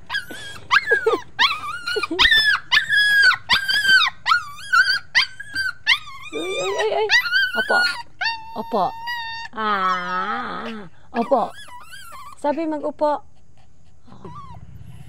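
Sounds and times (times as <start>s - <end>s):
puppy whining: 0.0s - 15.0s.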